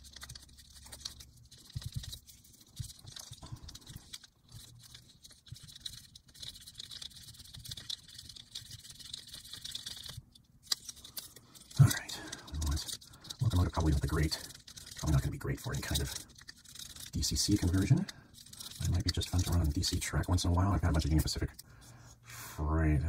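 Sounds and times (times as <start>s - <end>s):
pad scratching model wheels: 0.0s - 21.6s.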